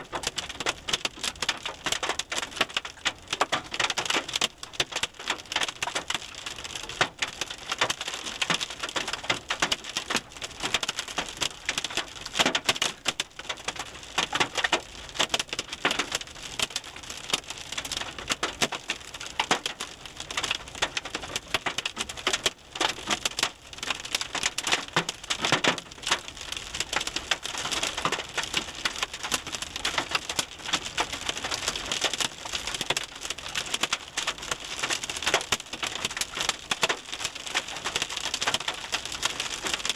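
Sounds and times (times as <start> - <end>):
hail pelting car roof: 0.1 - 39.9.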